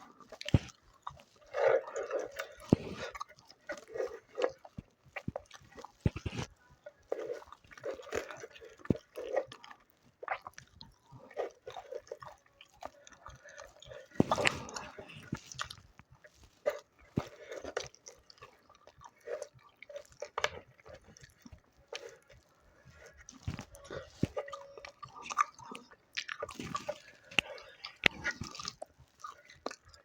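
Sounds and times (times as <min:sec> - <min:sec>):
biting and crunching: 0:00.0 - 0:30.0
wet chewing and smacking: 0:00.0 - 0:30.0.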